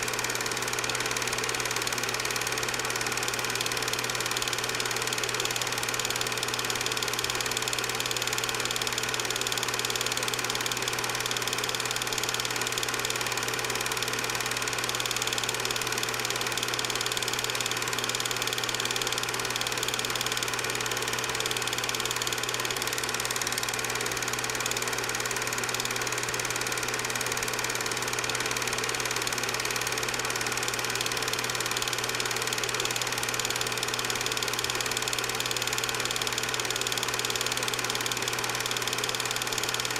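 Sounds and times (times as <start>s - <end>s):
film projector motor whir: 0.0s - 39.9s.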